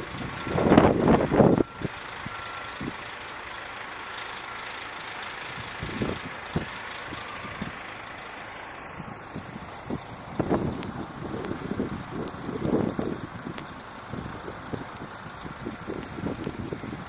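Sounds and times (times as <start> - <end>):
distant bus engines running: 0.0 - 17.0.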